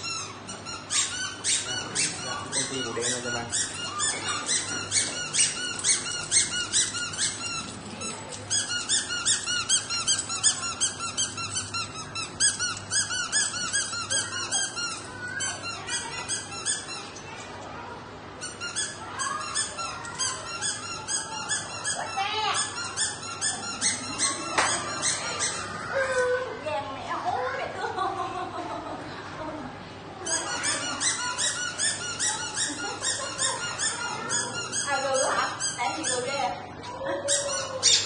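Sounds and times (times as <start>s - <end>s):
puppies whining and squealing: 0.0s - 17.4s, 18.4s - 26.6s, 30.2s - 38.0s.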